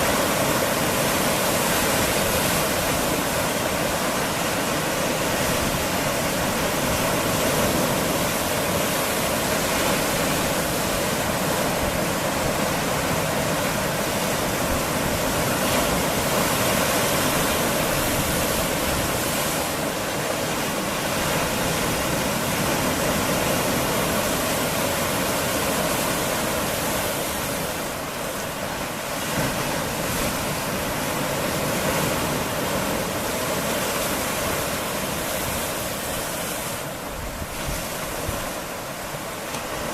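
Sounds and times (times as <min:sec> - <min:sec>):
sea waves on rocks: 0:00.0 - 0:39.9.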